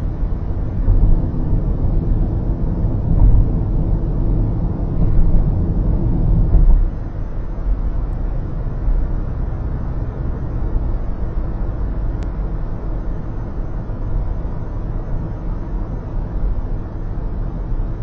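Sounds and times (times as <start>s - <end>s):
road and tyre rumble inside car: 0.0s - 18.0s.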